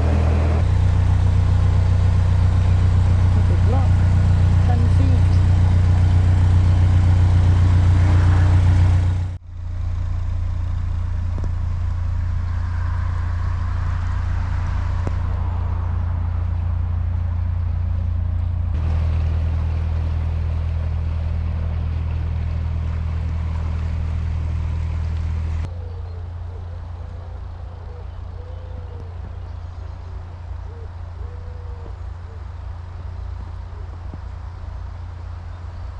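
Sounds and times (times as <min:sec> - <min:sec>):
boat engine humming: 0:00.0 - 0:35.9.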